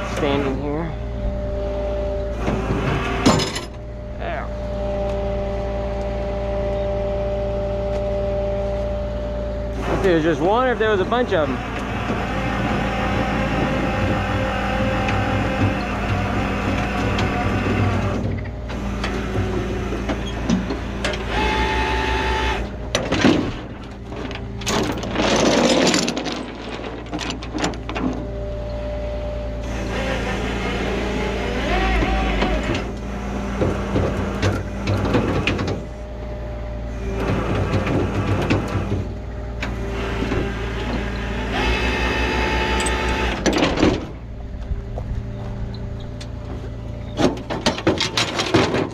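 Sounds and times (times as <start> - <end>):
hydraulic whining tones: 0.0 - 48.9
truck engine hum: 0.0 - 48.9.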